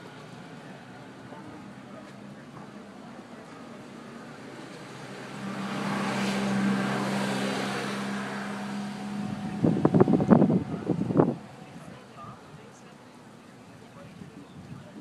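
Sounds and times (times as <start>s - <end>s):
vehicle passing: 0.6s - 12.9s.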